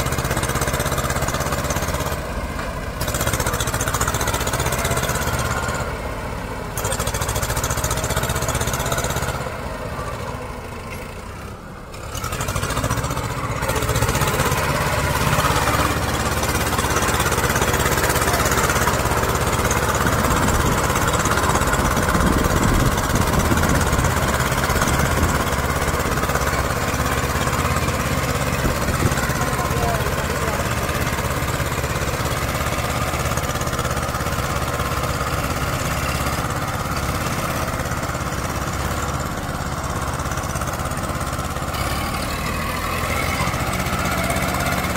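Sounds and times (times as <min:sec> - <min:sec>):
diesel tractor engines under load: 0:00.0 - 0:44.9.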